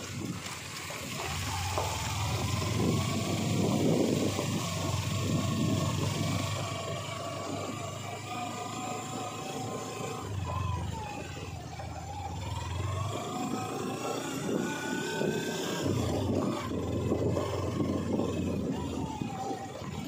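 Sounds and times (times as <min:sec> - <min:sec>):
motorcycle engine running: 0:00.0 - 0:20.0
tyres rumbling on gravel: 0:00.0 - 0:20.0.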